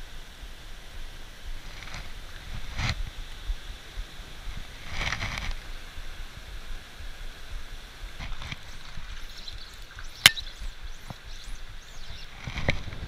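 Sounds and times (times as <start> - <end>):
stream water over stones: 0.1 - 13.0.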